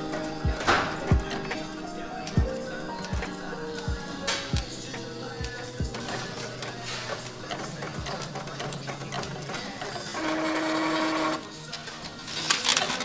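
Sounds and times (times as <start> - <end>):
printer clattering and clicking: 0.0 - 13.0
printer motor whine: 0.0 - 13.0.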